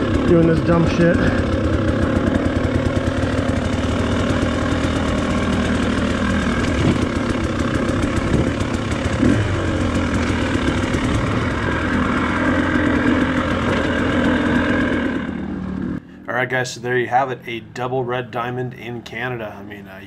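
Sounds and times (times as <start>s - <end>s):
dirt bike engine running: 0.0s - 16.2s.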